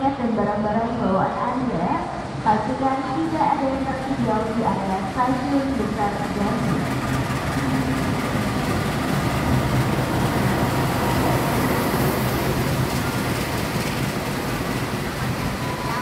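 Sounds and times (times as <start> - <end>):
diesel locomotive engine hum: 0.0 - 16.0
train coaches rolling past: 0.0 - 16.0.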